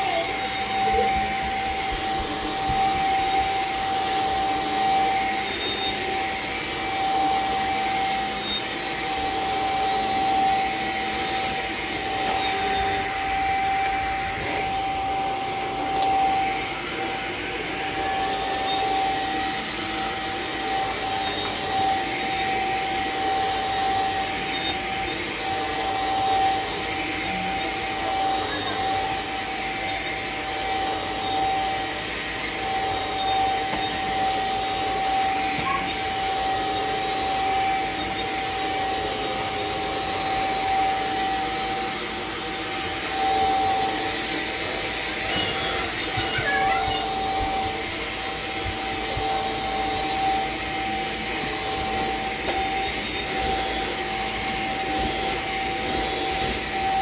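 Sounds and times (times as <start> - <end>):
vacuum cleaner on carpet: 0.0 - 57.0.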